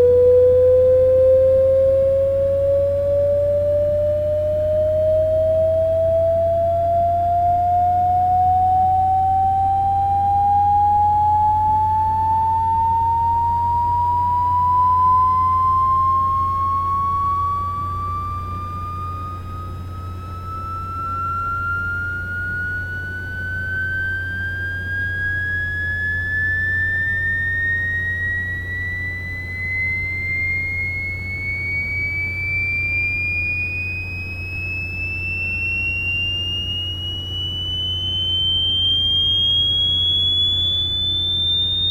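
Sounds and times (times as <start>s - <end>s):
faint low hum: 0.0s - 41.9s
sine tone sweeping upward: 0.0s - 41.9s.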